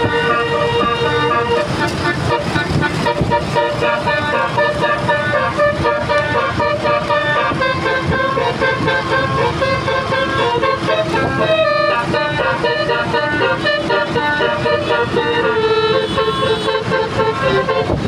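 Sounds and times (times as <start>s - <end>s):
multi-tone bus horns playing tune: 0.0s - 18.0s.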